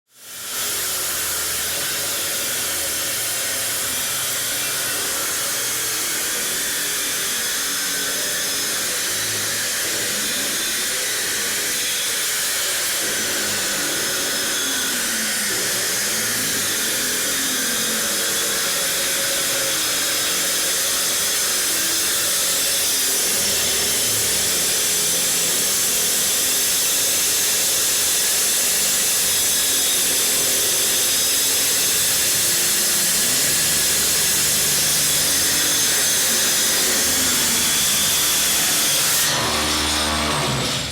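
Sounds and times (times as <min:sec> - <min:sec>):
vacuum cleaner running: 0:00.2 - 0:40.9
wall chaser grinding concrete: 0:00.2 - 0:40.9.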